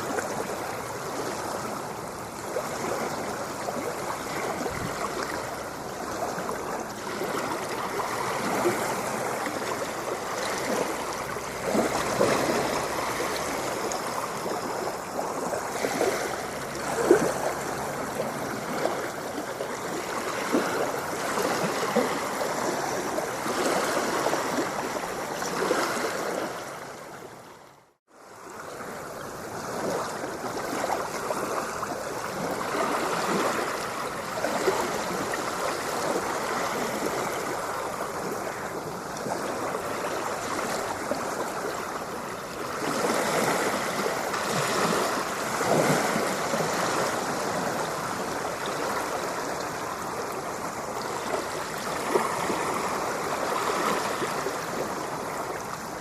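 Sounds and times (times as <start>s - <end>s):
water splashing and gurgling: 0.0s - 56.0s.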